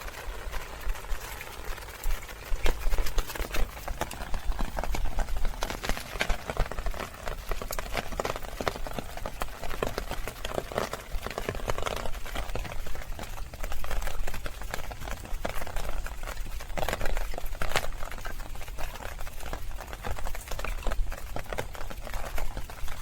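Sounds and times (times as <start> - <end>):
flowing water: 0.0 - 23.0
rain drops splashing: 0.0 - 23.0.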